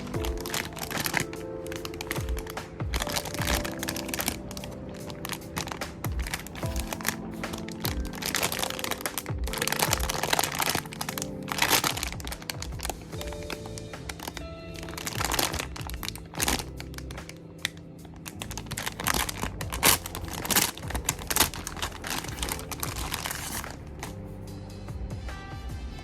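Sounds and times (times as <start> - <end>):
packaging crinkling: 0.0 - 24.2
background music: 0.0 - 26.0.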